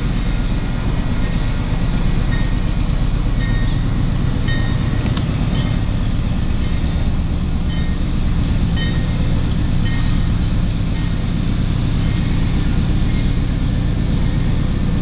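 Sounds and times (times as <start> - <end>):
car engine rumble: 0.0 - 15.0
level crossing warning bell: 0.0 - 15.0.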